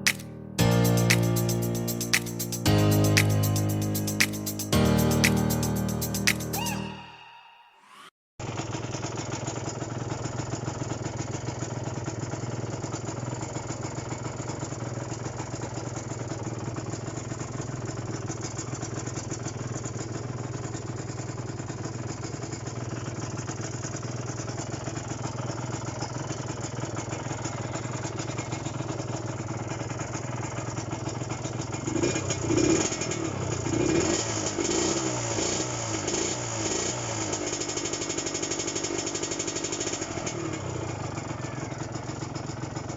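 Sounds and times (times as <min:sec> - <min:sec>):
motorcycle engine idling and revving: 0:08.5 - 0:42.9.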